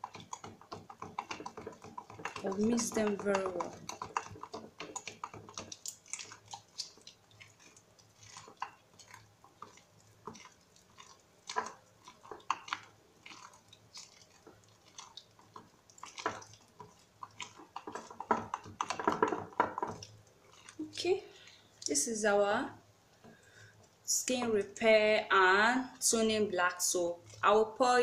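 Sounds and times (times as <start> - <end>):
soap paste squelching: 0.0 - 22.2, 26.0 - 28.0.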